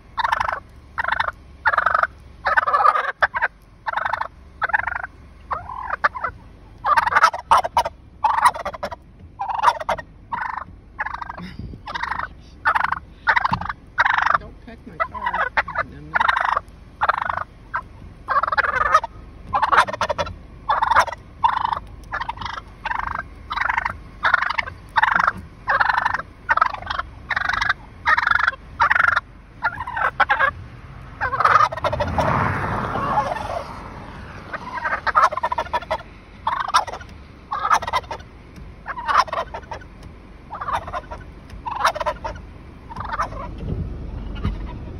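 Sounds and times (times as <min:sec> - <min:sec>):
turkey gobbling: 0:00.0 - 0:14.4, 0:15.0 - 0:30.6, 0:31.2 - 0:43.6, 0:44.2 - 0:44.9.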